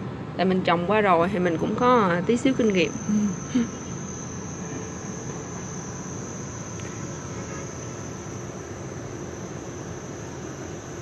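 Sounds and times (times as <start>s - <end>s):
crickets trilling: 0.4s - 11.0s.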